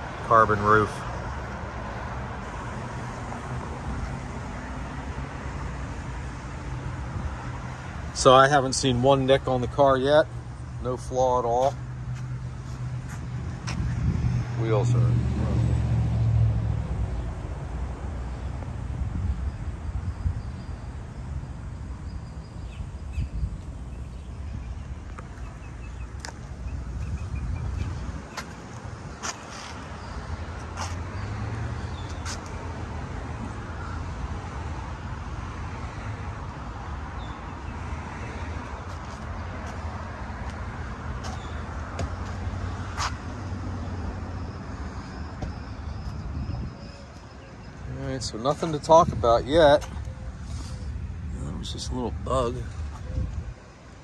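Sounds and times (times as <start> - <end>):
motor vehicles humming: 0.0 - 54.0
road noise: 0.0 - 54.0.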